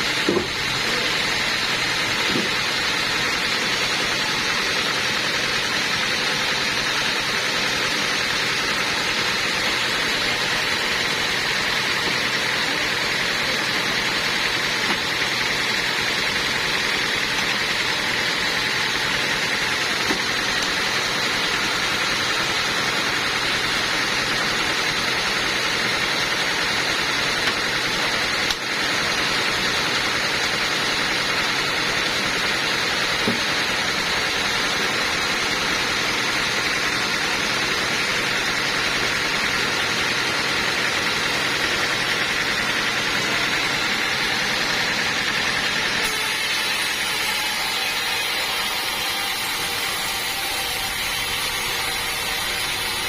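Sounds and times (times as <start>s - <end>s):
sawmill machinery drone: 0.0s - 53.0s.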